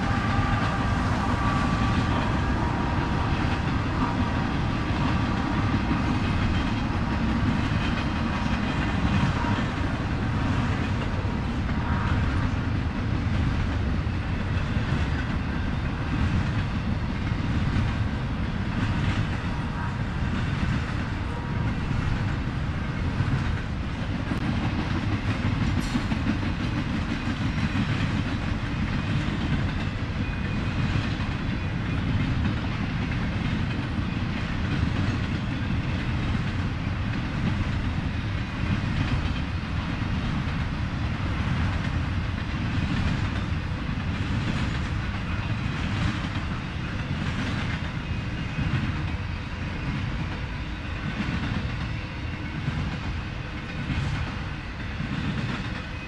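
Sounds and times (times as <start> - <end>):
train cars rumbling over rails: 0.0 - 56.0.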